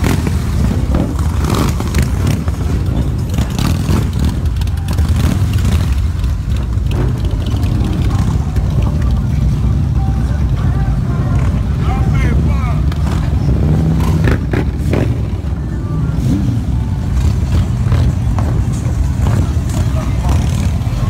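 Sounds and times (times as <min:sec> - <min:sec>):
motorcycles riding past: 0:00.0 - 0:21.0.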